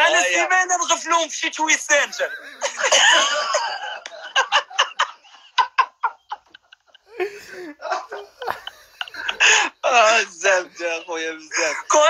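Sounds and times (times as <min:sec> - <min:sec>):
men laughing hard: 0:02.0 - 0:12.0.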